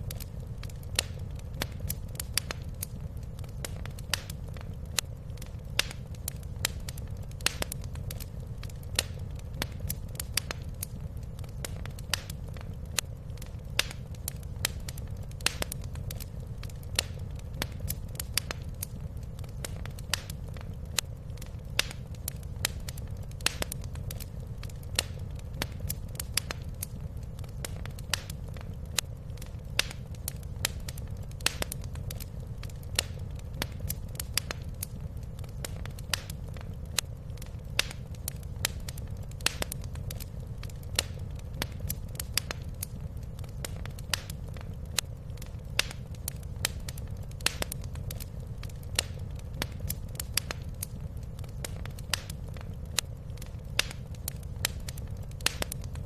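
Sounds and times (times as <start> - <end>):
low rumble of flames: 0.0 - 56.0
wood fire popping and snapping: 0.0 - 56.0.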